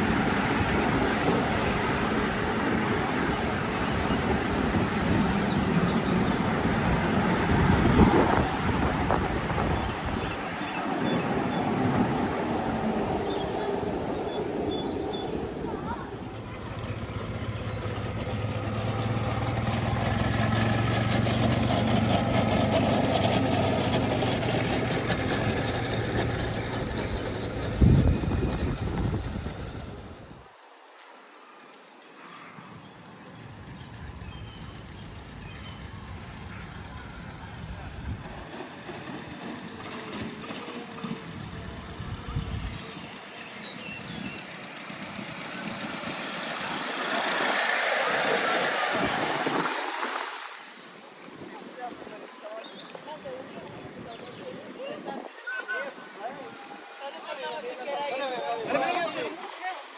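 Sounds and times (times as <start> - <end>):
miniature train engine humming: 0.0 - 30.5, 35.2 - 59.9.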